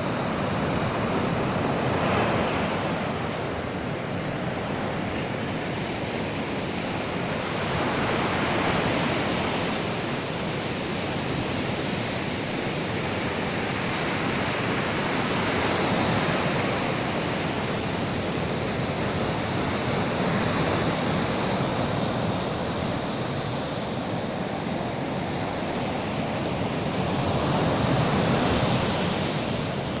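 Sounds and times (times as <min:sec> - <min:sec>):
sea surf washing ashore: 0:00.0 - 0:30.0.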